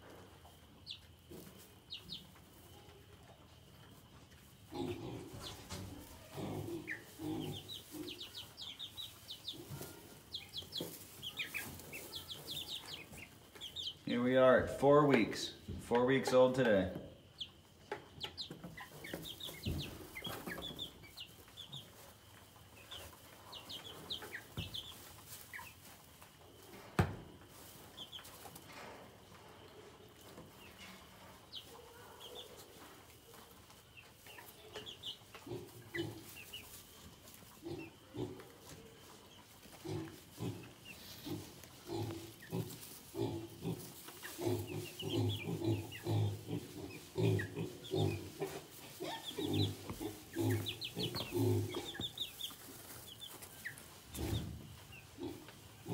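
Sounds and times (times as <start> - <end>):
chickens peeping: 0.0 - 55.9.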